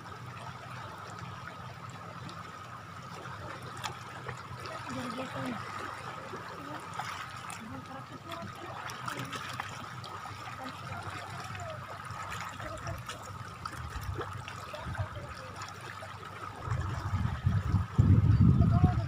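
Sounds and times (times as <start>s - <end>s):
water lapping at shoreline: 0.0s - 19.0s.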